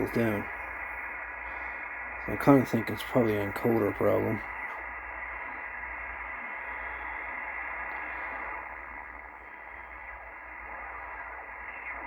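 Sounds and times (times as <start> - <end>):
low hum: 0.0 - 12.0
radio receiver static: 0.0 - 12.0.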